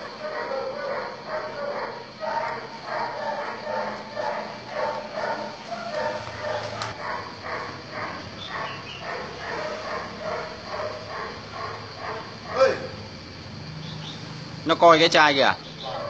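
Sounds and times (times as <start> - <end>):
dog barking rhythmically: 0.0 - 13.1, 15.8 - 16.0.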